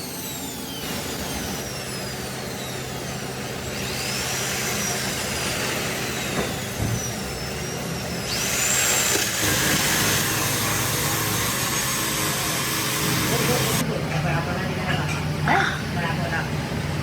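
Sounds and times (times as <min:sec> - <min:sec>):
high-speed power tool whine: 0:00.0 - 0:13.9.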